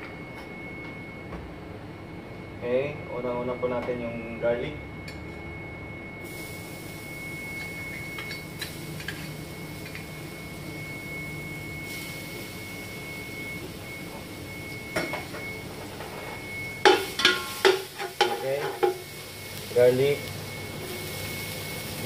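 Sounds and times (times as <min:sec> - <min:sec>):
thin high whine: 0:02.3 - 0:22.0.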